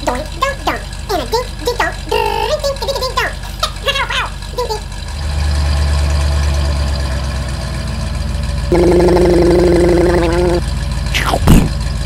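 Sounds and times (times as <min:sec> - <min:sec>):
cartoon truck engine rumble: 0:00.0 - 0:12.0.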